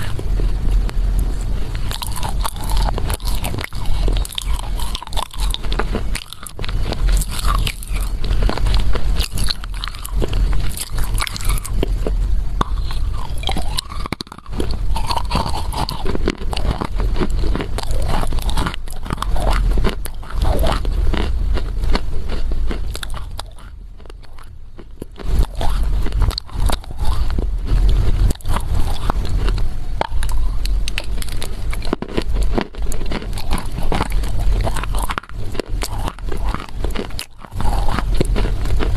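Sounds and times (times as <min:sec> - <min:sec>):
biting and chewing clay: 0:00.0 - 0:38.9.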